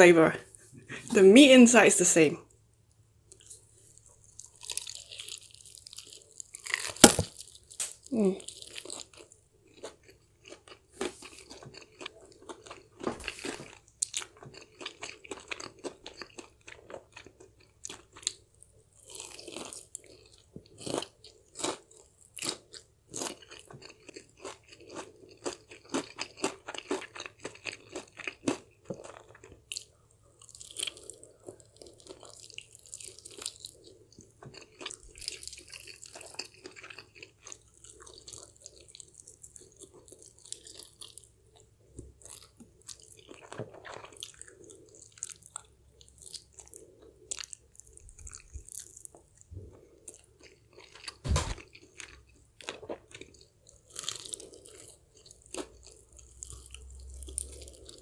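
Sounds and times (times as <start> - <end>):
crunching fried chicken: 3.3 - 58.0
wet chewing: 3.3 - 58.0.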